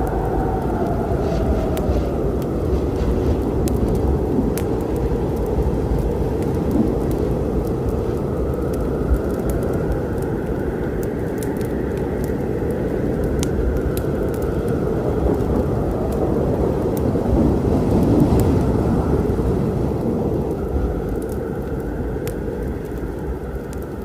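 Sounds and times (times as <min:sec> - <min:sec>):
rain: 0:00.0 - 0:24.0
thunder rumble: 0:00.0 - 0:24.0
wood fire crackling and popping: 0:00.0 - 0:24.0.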